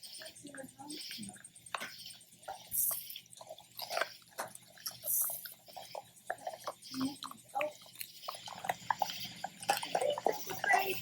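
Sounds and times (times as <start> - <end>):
puppies chewing and licking meat: 0.0 - 11.0
teeth clicking on bone: 1.0 - 11.0.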